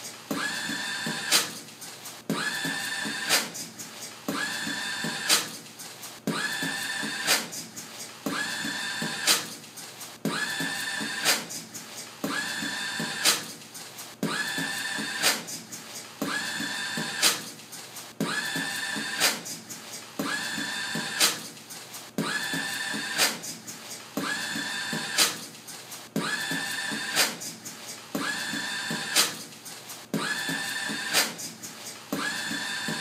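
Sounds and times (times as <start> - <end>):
person beatboxing: 0.1 - 33.0.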